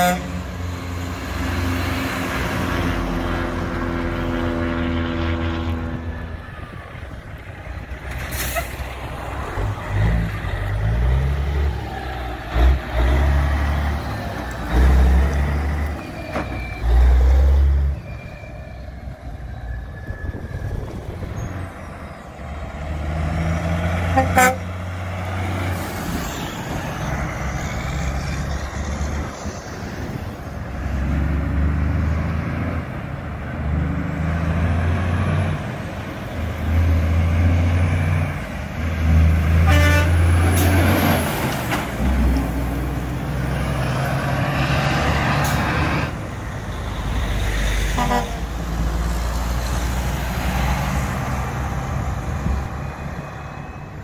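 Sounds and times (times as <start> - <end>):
diesel trucks pulling away: 0.0 - 54.0
traffic going by: 0.0 - 54.0.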